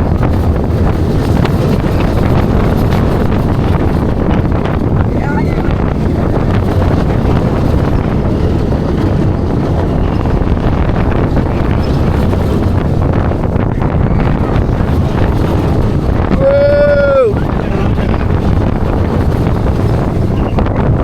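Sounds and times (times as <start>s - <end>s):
roller coaster train rumbling: 0.0s - 21.0s
wind on microphone: 0.0s - 21.0s.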